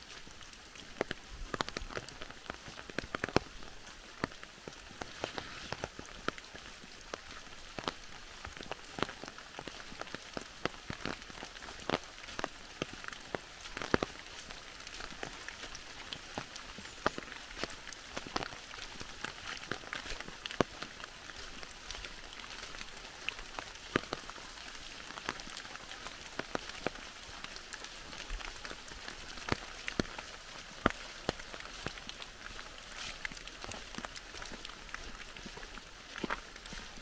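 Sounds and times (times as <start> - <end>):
rain hissing: 0.0 - 37.0
raindrop ticks: 0.0 - 37.0.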